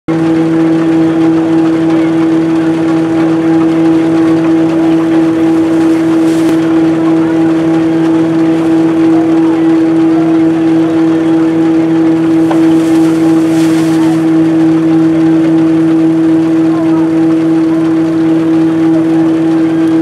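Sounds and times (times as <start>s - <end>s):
threshing machine humming: 0.1s - 20.0s.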